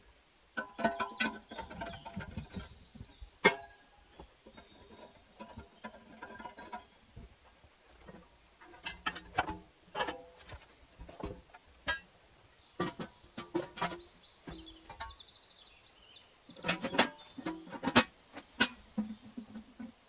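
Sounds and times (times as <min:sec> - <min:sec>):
knocks and clatter from hand work: 0:00.6 - 0:15.4, 0:16.4 - 0:20.0.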